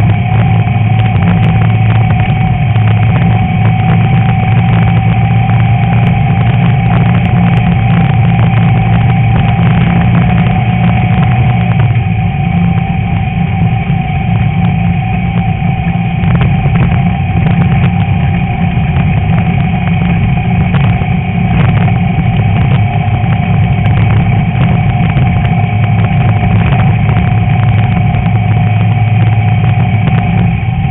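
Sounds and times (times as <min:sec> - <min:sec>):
car engine running: 0:00.0 - 0:30.9.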